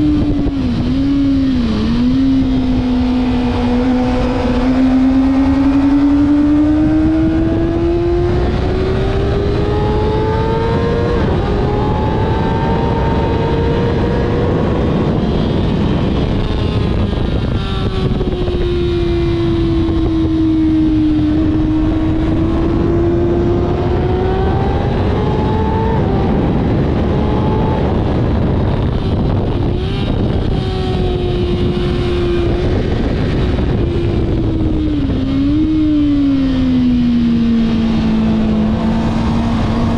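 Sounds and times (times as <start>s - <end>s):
heavy wind rush: 0.0s - 39.9s
motorcycle engine accelerating: 0.0s - 39.9s.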